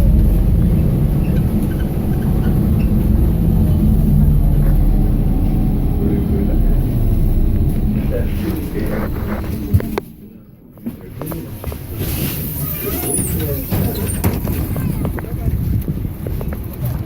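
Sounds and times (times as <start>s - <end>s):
trolleybus rumble from inside: 0.0s - 17.0s.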